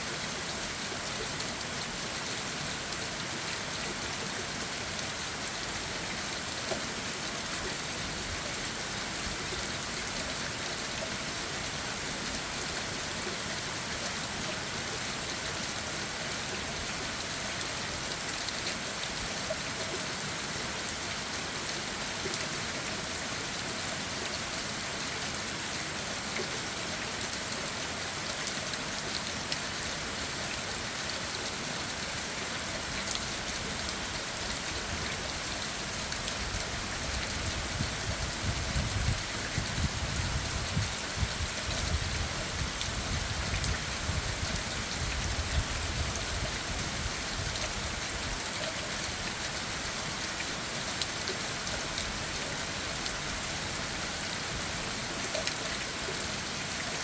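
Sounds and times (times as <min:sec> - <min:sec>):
rain on leaves and ground: 0:00.0 - 0:57.0.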